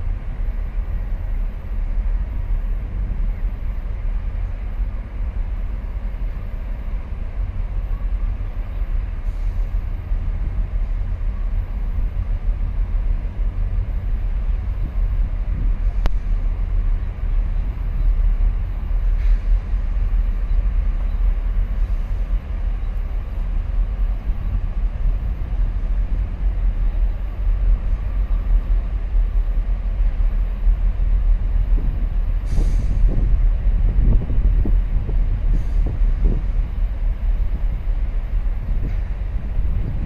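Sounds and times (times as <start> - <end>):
ship engine rumble: 0.0 - 40.0
wind buffeting microphone: 0.0 - 40.0.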